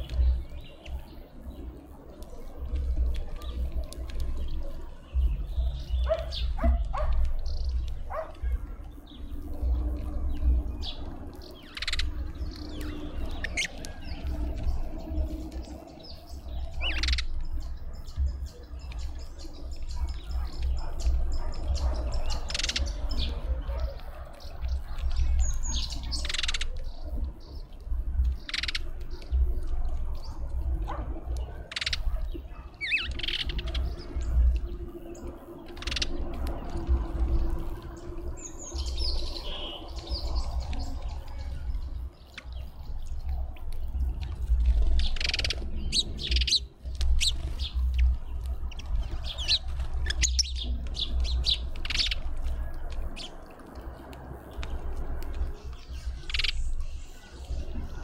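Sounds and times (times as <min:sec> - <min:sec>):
birds chirping and squawking: 0:00.0 - 0:58.0
steady low rumble: 0:00.0 - 0:58.0.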